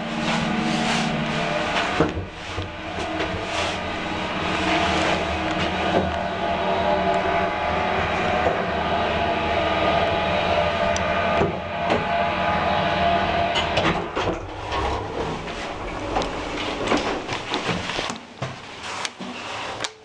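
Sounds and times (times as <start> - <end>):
lift car mechanical hum: 0.0 - 20.0.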